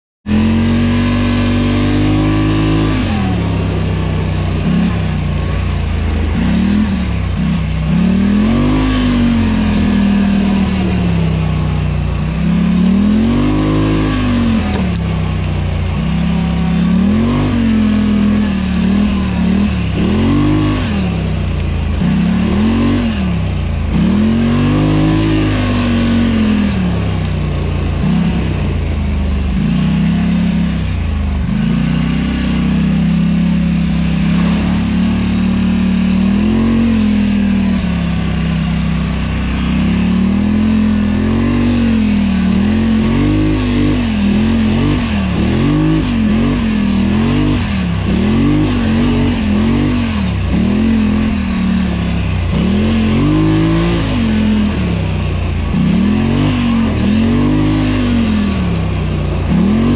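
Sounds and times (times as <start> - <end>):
atv engine revving: 0.3 - 59.9.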